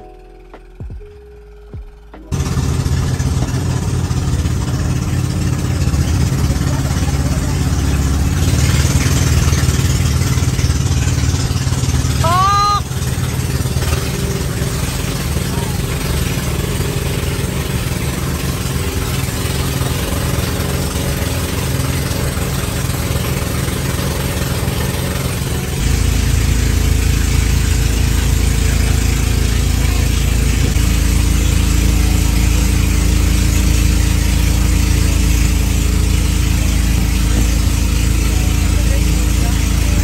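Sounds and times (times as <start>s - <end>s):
engine running: 0.0s - 40.0s.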